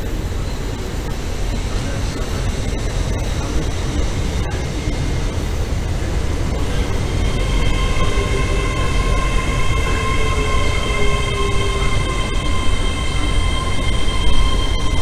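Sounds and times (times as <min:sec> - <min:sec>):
high multi-tone whine: 0:00.0 - 0:15.0
train wheels rumbling on rails: 0:00.0 - 0:15.0.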